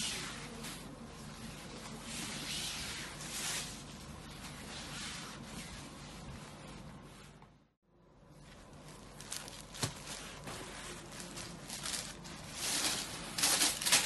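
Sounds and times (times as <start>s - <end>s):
silk fabric rustling: 0.0s - 7.8s, 8.4s - 14.0s.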